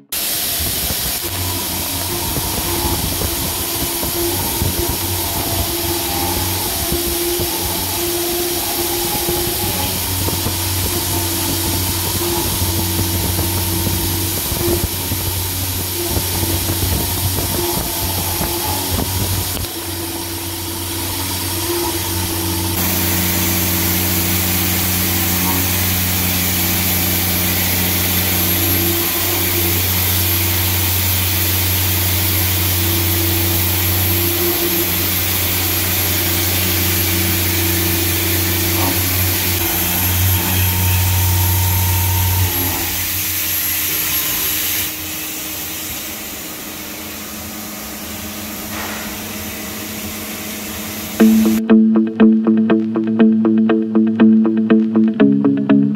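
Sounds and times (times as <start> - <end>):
machine hum: 0.0 - 43.3, 50.9 - 55.9
hiss of metal cutting: 0.1 - 51.2.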